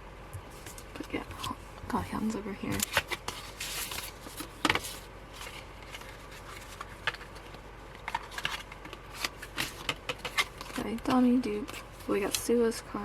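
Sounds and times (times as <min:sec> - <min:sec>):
handling of cards and packaging: 0:00.6 - 0:12.6.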